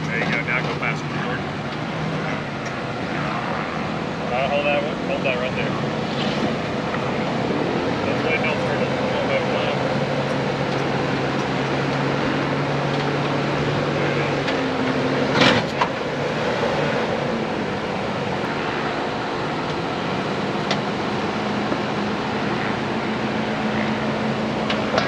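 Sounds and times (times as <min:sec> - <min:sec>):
engine running under load: 0:00.0 - 0:25.0.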